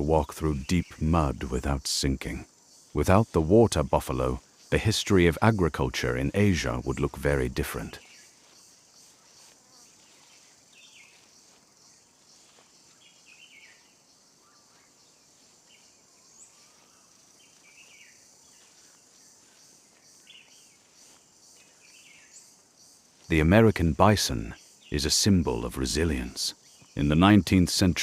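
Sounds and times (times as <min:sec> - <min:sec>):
high insect hiss: 0:00.0 - 0:28.0.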